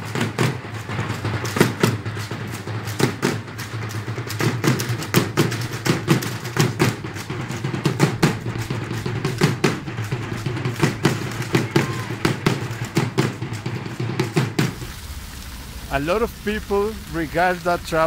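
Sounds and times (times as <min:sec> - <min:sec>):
hand drums beating: 0:00.0 - 0:14.8.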